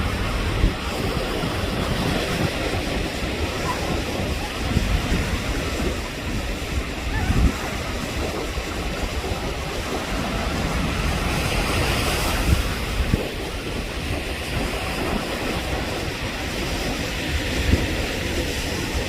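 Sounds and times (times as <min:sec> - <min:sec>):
ocean surf washing: 0:00.0 - 0:19.0
wind buffeting microphone: 0:00.0 - 0:19.0.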